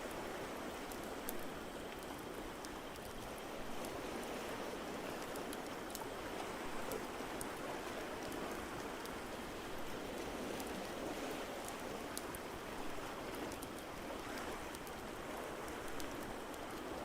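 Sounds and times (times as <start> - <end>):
rain-like water noise: 0.0 - 17.0.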